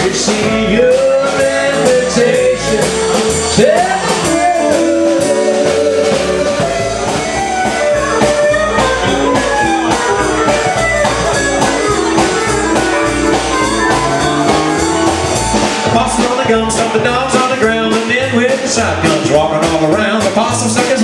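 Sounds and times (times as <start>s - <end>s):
guitar: 0.0s - 21.0s
steady drum beat: 0.0s - 21.0s
western swing band playing: 0.0s - 21.0s.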